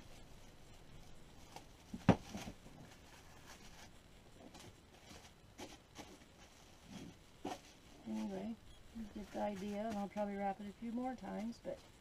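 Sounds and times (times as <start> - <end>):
plastic cling wrap crinkling: 1.3 - 11.9.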